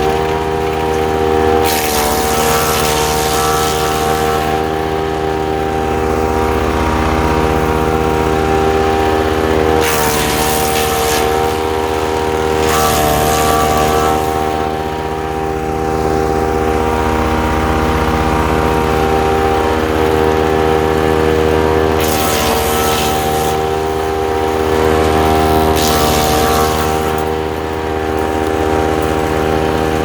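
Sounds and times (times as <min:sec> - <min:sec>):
woodchipper engine running: 0:00.0 - 0:30.0.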